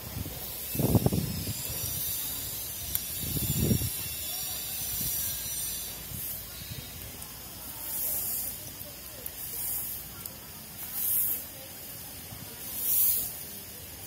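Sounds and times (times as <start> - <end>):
broom sweeping stone path: 0.0 - 14.0.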